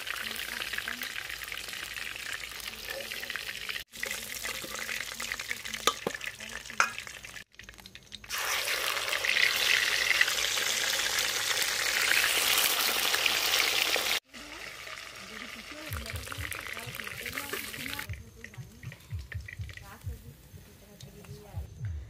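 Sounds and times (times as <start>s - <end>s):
fish sizzling in hot oil: 0.0s - 18.6s.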